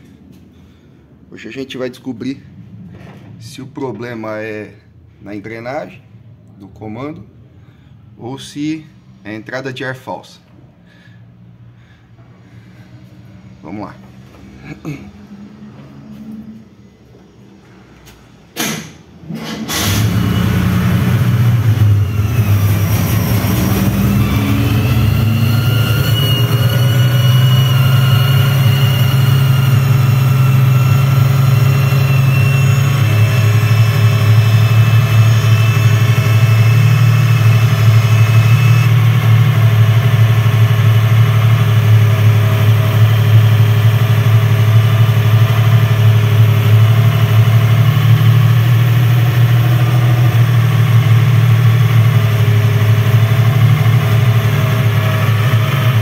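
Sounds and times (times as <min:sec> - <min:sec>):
car engine starting and idling: 0:10.4 - 0:56.0.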